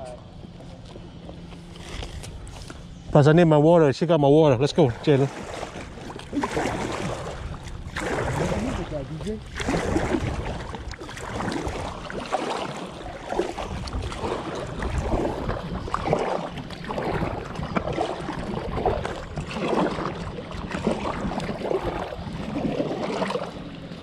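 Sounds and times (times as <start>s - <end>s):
wind rumbling on microphone: 1.1s - 24.0s
paddles splashing in water: 4.5s - 24.0s.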